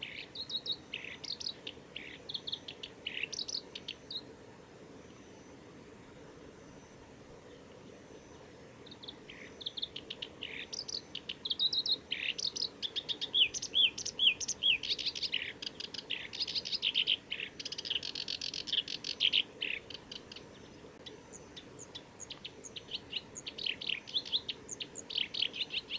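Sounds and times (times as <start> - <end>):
reed warbler singing: 0.0 - 5.6, 6.5 - 25.9.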